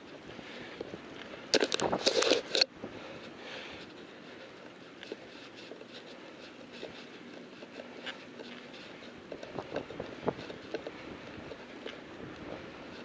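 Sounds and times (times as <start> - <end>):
bicycle rattling on pavement: 0.0 - 13.0.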